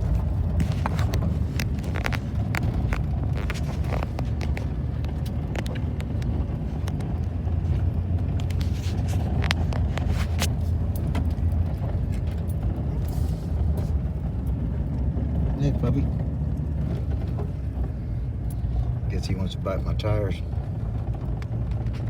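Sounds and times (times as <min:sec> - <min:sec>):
car cabin road and engine rumble: 0:00.0 - 0:22.0.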